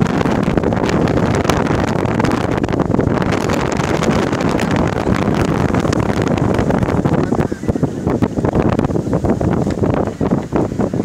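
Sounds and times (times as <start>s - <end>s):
ship engine rumble: 0.0s - 11.0s
wind on microphone: 0.0s - 11.0s.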